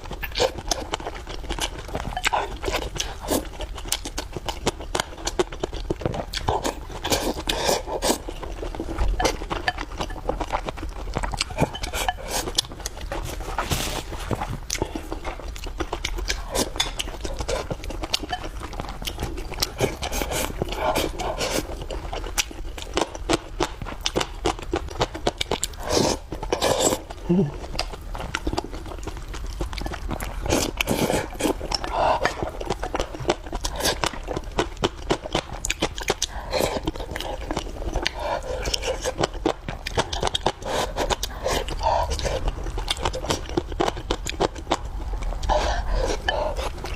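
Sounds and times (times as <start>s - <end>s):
person chewing wetly: 0.0s - 46.9s.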